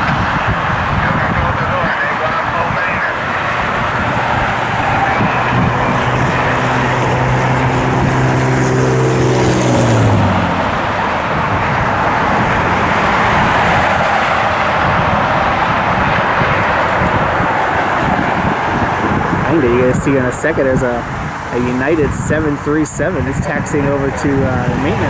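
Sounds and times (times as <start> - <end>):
traffic noise: 0.0 - 25.0
vehicle engine passing: 0.0 - 25.0
wind rush: 0.0 - 25.0.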